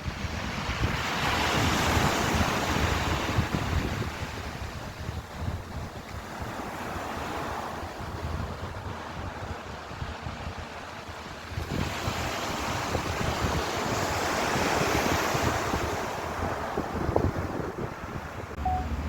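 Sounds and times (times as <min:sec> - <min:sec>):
ocean waves breaking: 0:00.0 - 0:19.0
wind rumble on microphone: 0:00.0 - 0:19.0.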